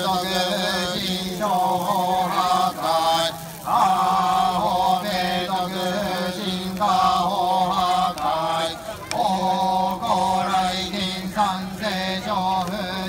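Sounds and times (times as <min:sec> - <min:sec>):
low monotone chanting: 0:00.0 - 0:13.0.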